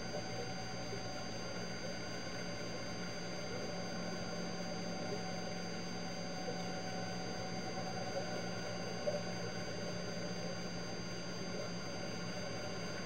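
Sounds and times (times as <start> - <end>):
underwater hum and hiss: 0.0 - 13.0.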